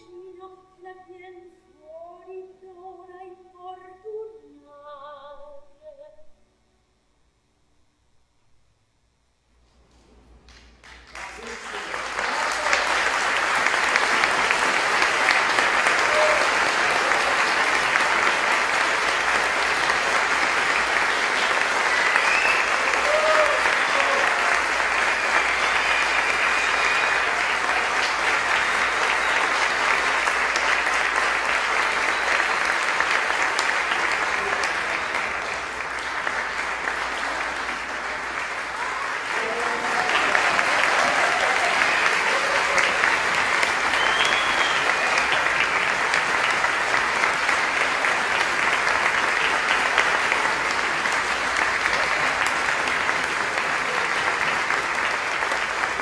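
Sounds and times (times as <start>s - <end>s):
audience applauding: 10.5s - 56.0s.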